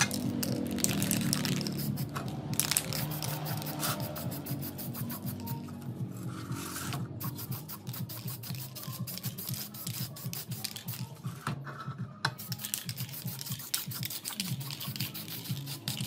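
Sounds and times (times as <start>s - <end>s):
spray paint can hissing: 0.0s - 5.8s, 6.6s - 11.2s, 12.3s - 16.0s
background music with bass: 0.0s - 14.0s.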